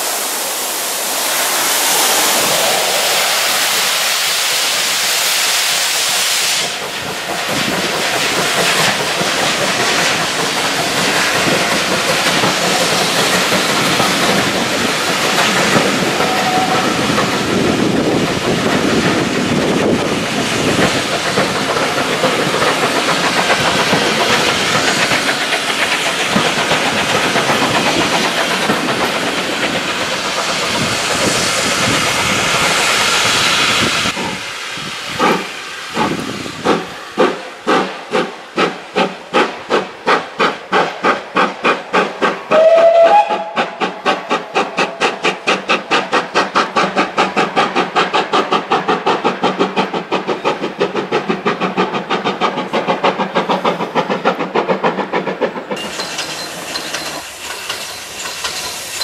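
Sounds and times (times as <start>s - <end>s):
steam locomotive chuffs: 0.0s - 59.0s
train wheels clattering on rails: 1.9s - 59.0s.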